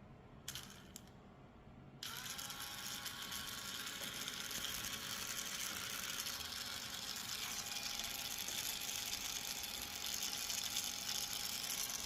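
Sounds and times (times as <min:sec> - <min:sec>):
small gear motor whirring: 0:00.5 - 0:01.1, 0:02.0 - 0:12.0.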